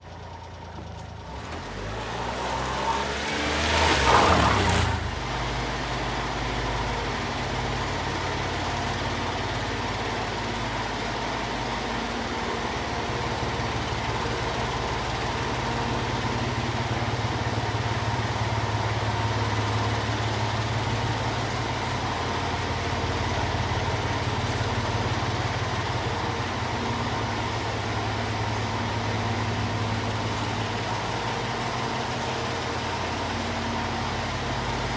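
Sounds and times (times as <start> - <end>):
small truck engine revving and idling: 0.0 - 34.9.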